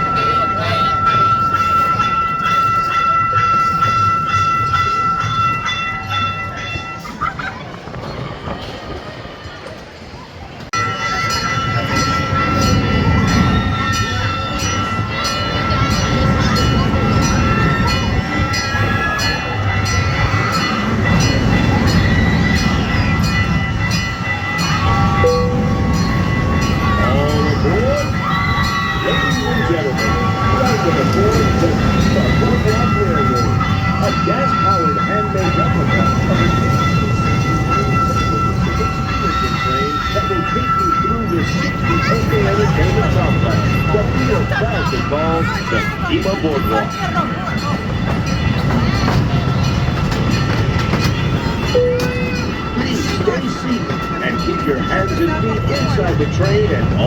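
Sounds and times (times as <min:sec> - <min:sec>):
rail joint clacks: 0:00.0 - 0:57.0
steam train running: 0:00.0 - 0:57.0.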